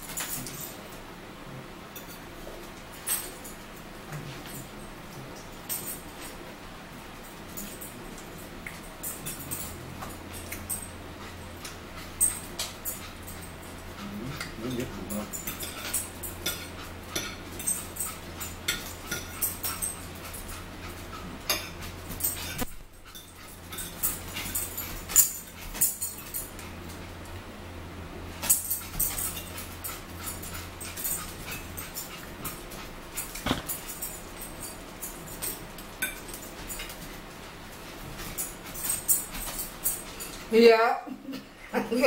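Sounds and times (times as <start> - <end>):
low steady hum: 0.0 - 42.0
forks clicking and scraping on plates: 1.9 - 4.8, 7.2 - 27.1, 28.4 - 40.5.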